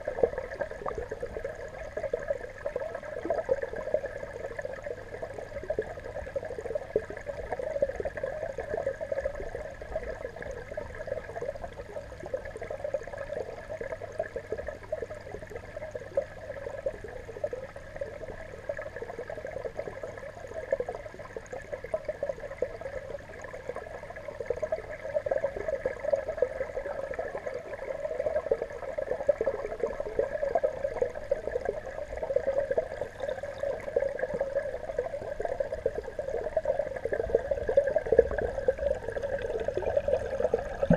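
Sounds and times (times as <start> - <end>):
muffled crackly underwater noise: 0.0 - 40.9.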